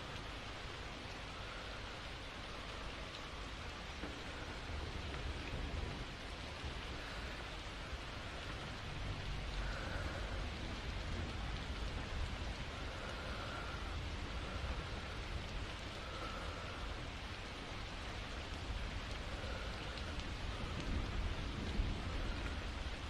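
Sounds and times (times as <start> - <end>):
faint soft breaths: 0.0 - 23.0
steady rain: 0.0 - 23.0.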